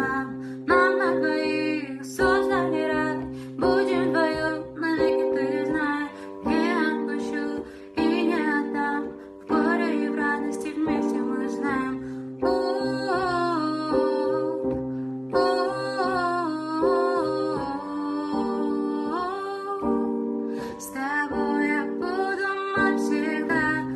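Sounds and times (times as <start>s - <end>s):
person singing: 0.0s - 23.9s.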